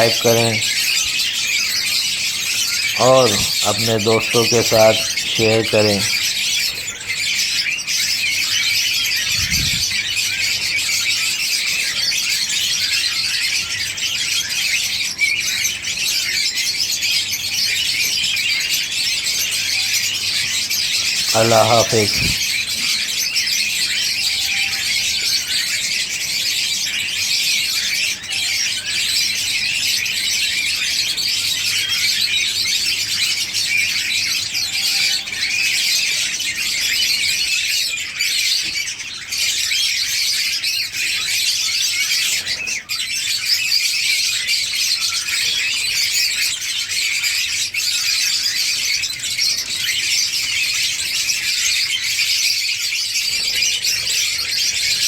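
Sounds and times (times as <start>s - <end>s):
small cage birds chirping: 0.0s - 55.0s.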